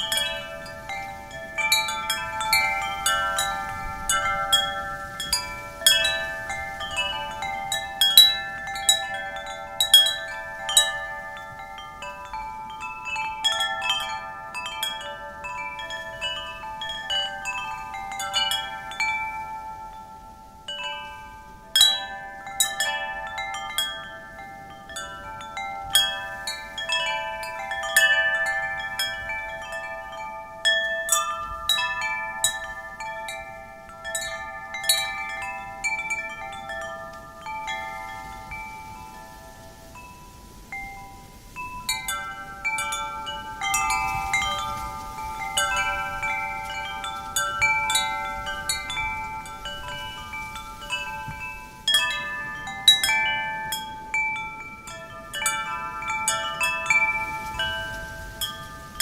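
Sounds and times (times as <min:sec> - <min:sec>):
faint wind hiss: 0:00.0 - 0:59.0
metal wind chimes ringing: 0:00.0 - 0:59.0.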